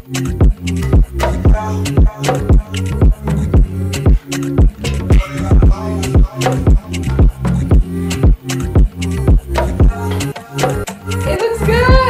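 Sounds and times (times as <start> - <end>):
music with heavy beat: 0.0 - 12.0.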